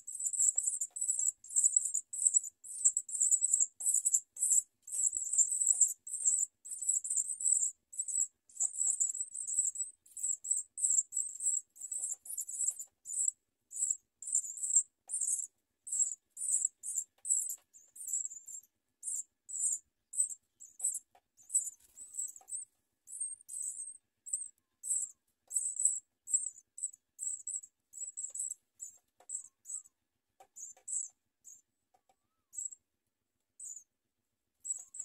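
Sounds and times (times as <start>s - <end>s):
baby birds cheeping: 0.0s - 32.8s, 33.6s - 33.9s, 34.6s - 35.0s.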